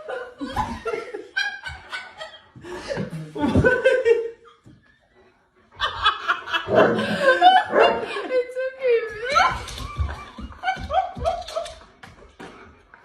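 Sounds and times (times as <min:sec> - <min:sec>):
people laughing: 0:00.0 - 0:08.5, 0:09.2 - 0:12.6.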